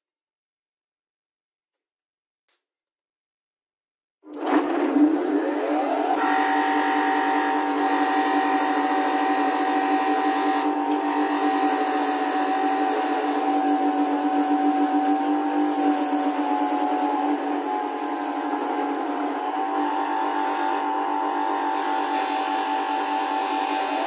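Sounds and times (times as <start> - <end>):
grinder motor whining: 4.2 - 24.0.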